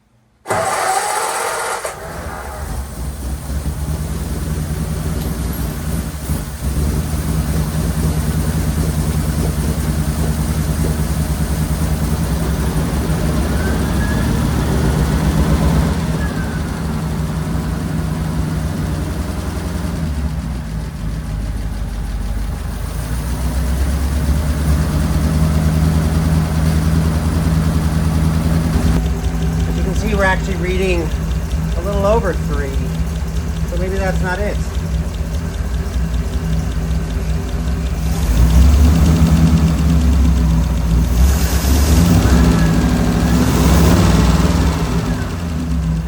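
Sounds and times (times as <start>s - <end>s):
car engine idling: 0.1s - 46.0s.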